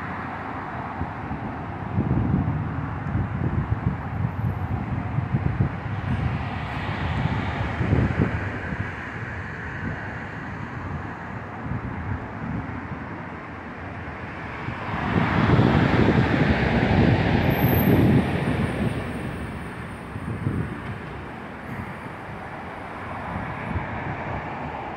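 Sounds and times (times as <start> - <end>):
road traffic noise: 0.0 - 24.9.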